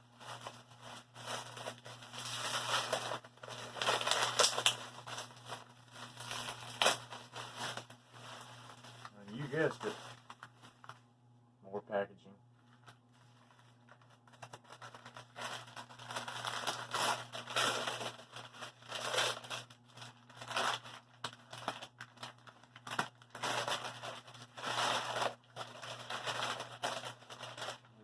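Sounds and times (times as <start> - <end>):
packaging crinkling and tearing: 0.1 - 11.0, 12.6 - 28.0.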